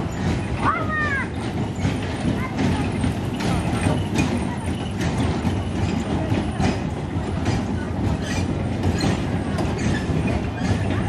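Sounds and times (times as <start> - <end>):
ride train rumbling: 0.0 - 11.0
wheels clacking on rails: 0.0 - 11.0.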